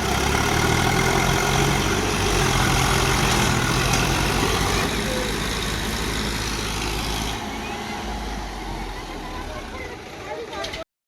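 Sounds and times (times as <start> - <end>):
tractor diesel engine running: 0.0 - 10.8.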